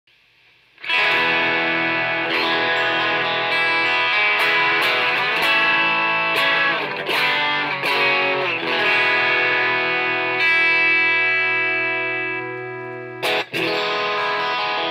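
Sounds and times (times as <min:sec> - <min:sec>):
overdriven electric guitar: 0:00.8 - 0:14.9.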